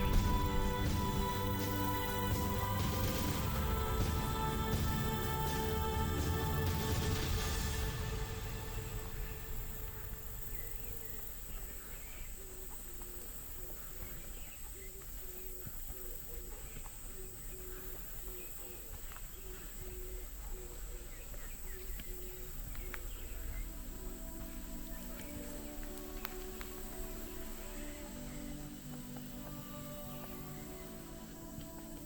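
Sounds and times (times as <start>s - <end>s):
bird chirps: 0.0s - 32.0s
insects droning: 0.0s - 32.0s.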